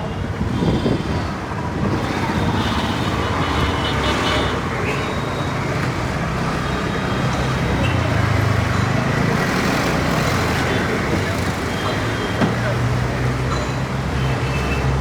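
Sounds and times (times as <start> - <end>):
vehicle engines and traffic: 0.0 - 15.0.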